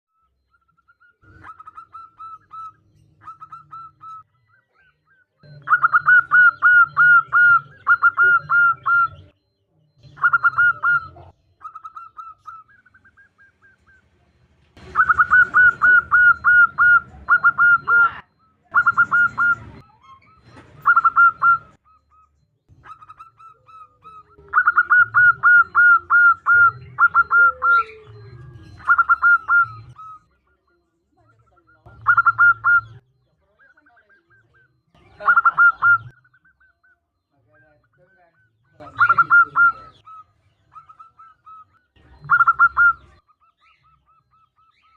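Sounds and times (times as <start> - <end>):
dove staccato cooing: 0.6 - 9.4, 10.0 - 44.9.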